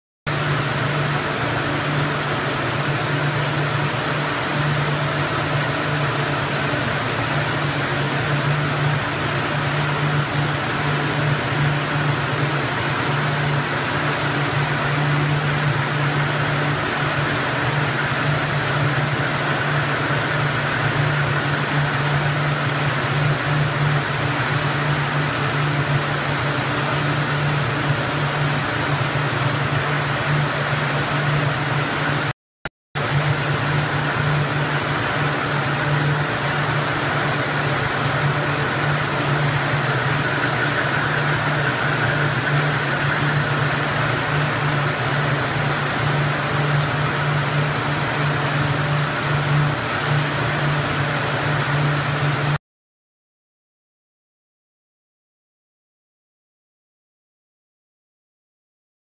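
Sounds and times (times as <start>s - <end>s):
yarn machines humming and hissing: 0.3s - 32.3s, 33.0s - 52.6s.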